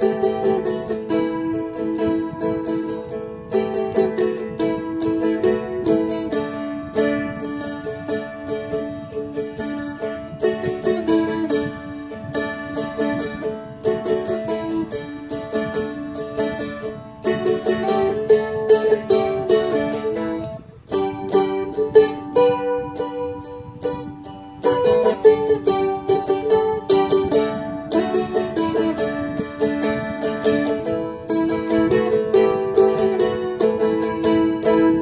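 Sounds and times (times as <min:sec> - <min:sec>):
strumstick strummed and picked: 0:00.0 - 0:35.0.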